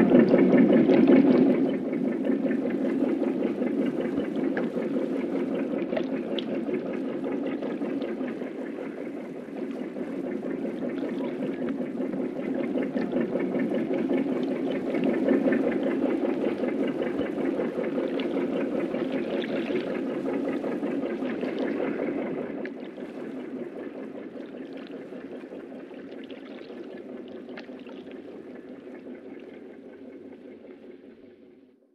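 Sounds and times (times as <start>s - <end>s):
sea water rushing and churning: 0.0s - 31.0s.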